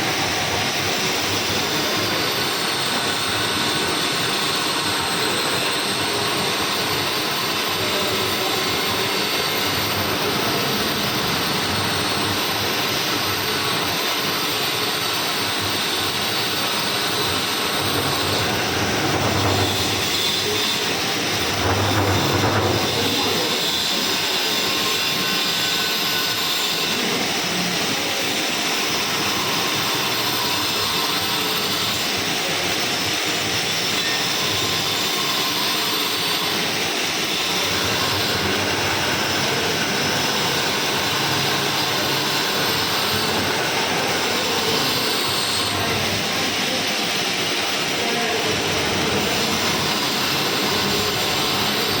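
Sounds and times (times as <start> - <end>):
metal lathe running: 0.0 - 52.0.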